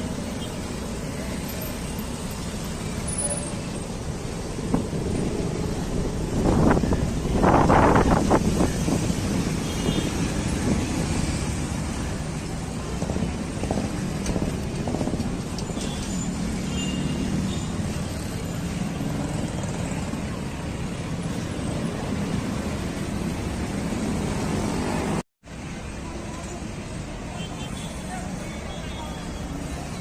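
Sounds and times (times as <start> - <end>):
vehicle engines and tyres rumbling: 0.0 - 30.0.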